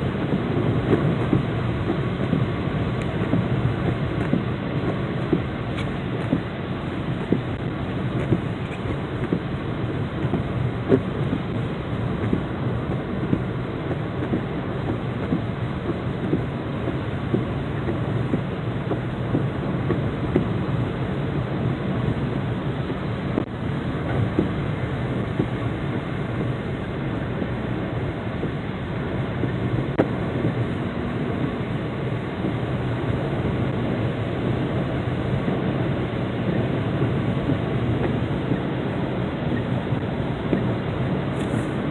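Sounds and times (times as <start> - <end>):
heavy rain falling: 0.0 - 41.9
rain hits striking a surface: 0.0 - 41.9.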